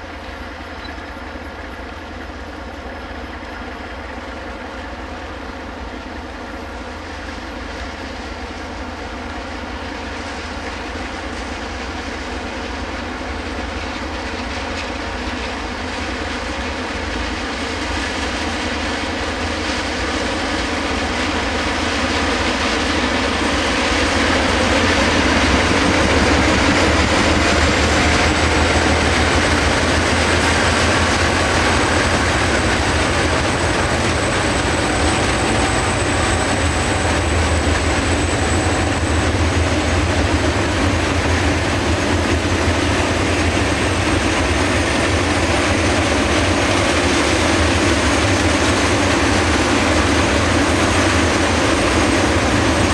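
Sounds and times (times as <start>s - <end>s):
diesel locomotive engines: 0.0s - 52.9s.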